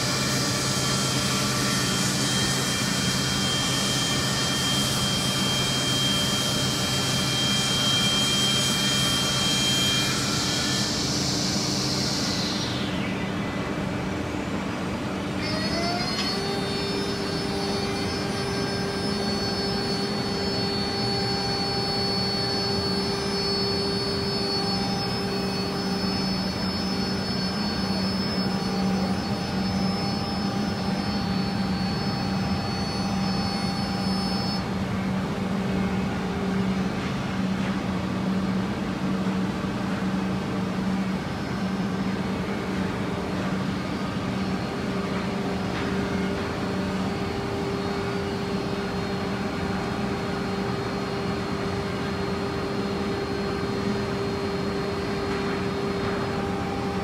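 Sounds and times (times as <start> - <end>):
constant machine drone: 0.0 - 57.0
machine spindle high whine: 0.0 - 57.0.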